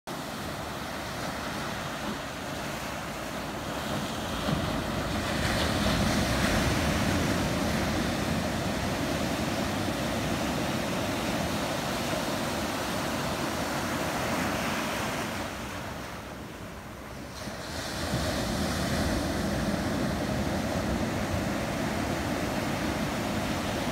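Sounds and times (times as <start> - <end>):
ocean surf breaking: 0.1 - 23.9.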